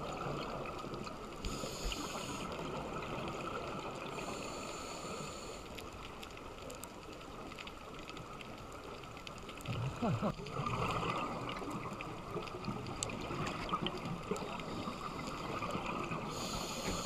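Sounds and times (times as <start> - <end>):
steady underwater hiss: 0.0 - 17.0
faint clicks: 0.3 - 17.0.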